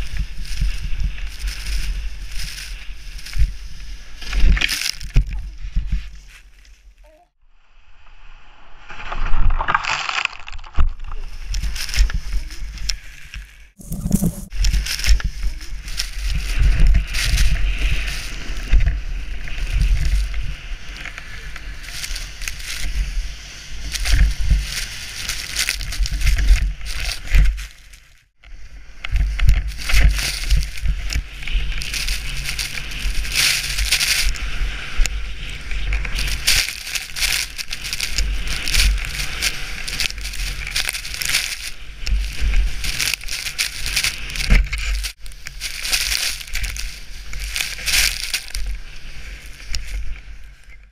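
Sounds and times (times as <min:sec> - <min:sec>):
wind buffeting camera: 0:00.0 - 0:06.3, 0:10.5 - 0:27.8, 0:28.4 - 0:50.9
snow spraying and scraping: 0:00.0 - 0:07.0, 0:08.8 - 0:50.6.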